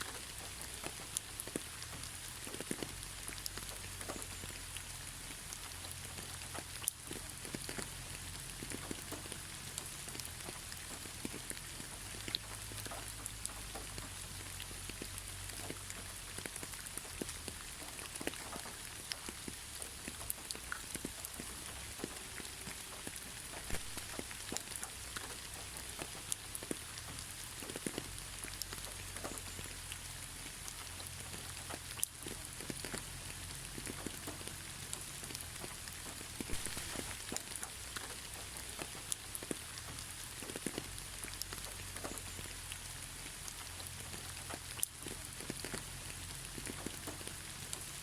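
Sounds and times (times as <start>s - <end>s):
gentle steady rain: 0.0s - 48.0s
raindrops ticking on surface: 0.0s - 48.0s.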